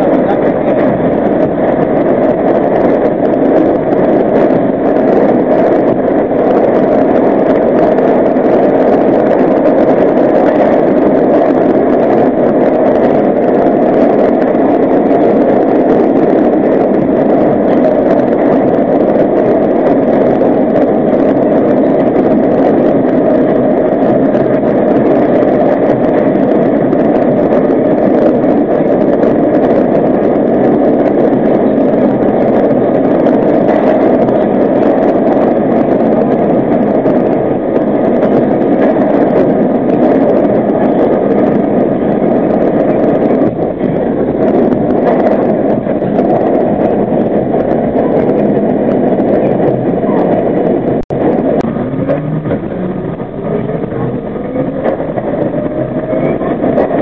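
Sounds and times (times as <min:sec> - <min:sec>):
subway train rumbling in tunnel: 0:00.0 - 0:57.0.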